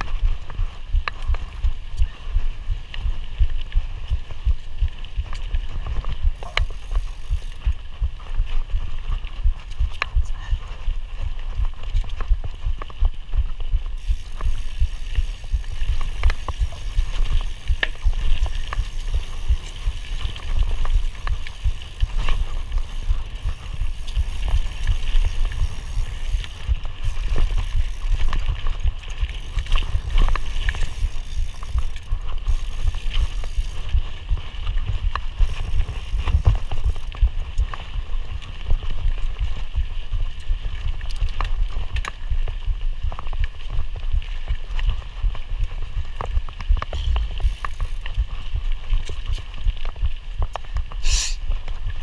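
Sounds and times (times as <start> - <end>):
bike clicking and rattling: 0.0 - 52.0
bike tyres rumbling on dirt: 0.0 - 52.0.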